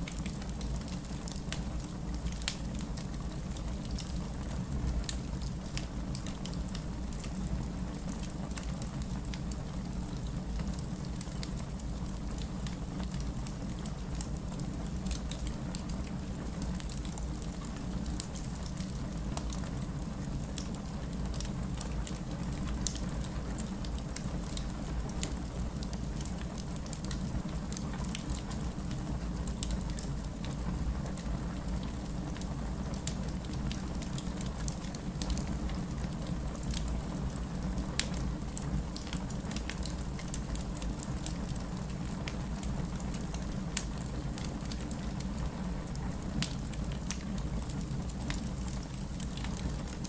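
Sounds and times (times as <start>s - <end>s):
logs crackling and popping: 0.0s - 50.0s
low rumble of flames: 0.0s - 50.0s.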